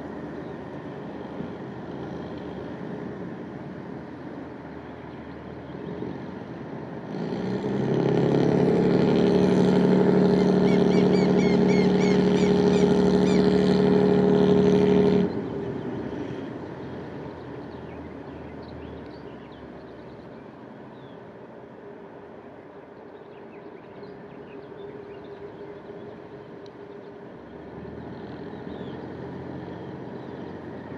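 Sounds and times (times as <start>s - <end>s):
diesel engine drone: 0.0s - 30.9s.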